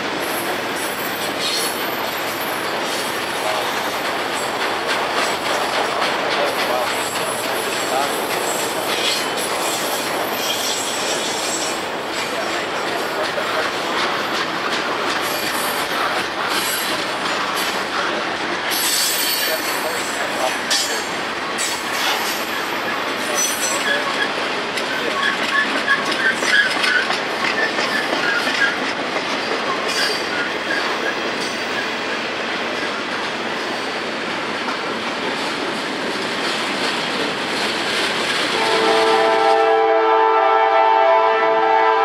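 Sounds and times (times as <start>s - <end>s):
steel wheels rumbling on rail: 0.0s - 42.0s.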